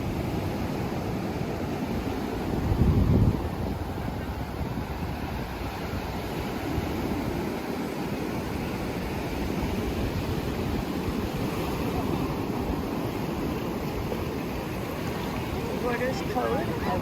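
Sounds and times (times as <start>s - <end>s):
ocean surf washing up beach: 0.0s - 17.0s
wind on microphone: 0.0s - 17.0s.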